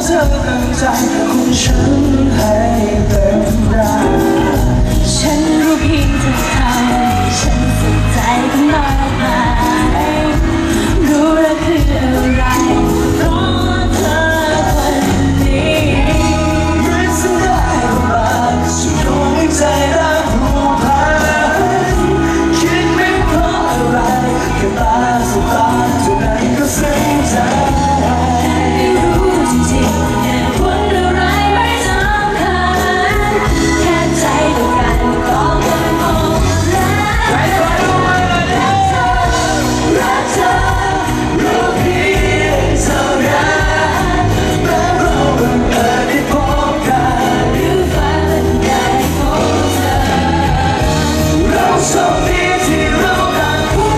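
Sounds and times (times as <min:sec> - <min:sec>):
drum kit beat: 0:00.0 - 0:53.9
person singing: 0:00.0 - 0:53.9
pop band playing: 0:00.0 - 0:53.9.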